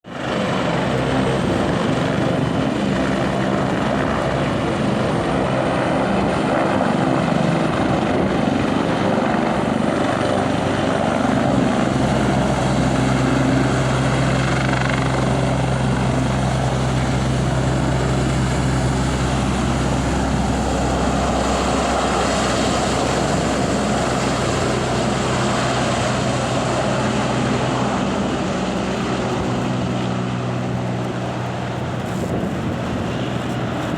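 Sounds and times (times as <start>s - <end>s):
helicopter rotor beat: 0.1s - 33.9s
turbine high whine: 0.1s - 33.9s.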